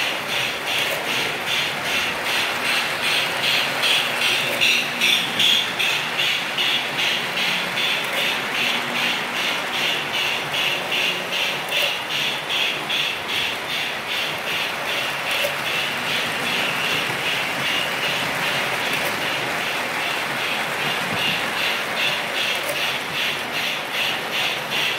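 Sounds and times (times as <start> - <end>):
model train running rumble: 0.0 - 24.9
model train wheels clicking: 0.0 - 24.9.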